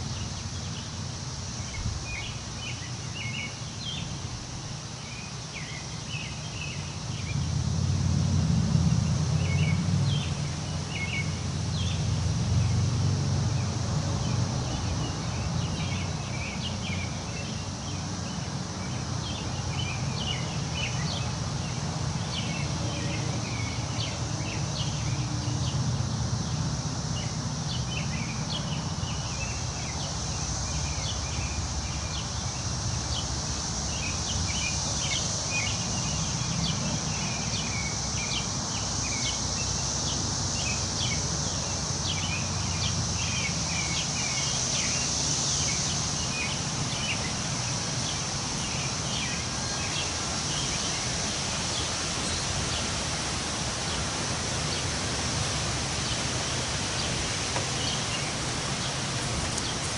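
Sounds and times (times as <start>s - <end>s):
wind rustling leaves: 0.0s - 59.9s.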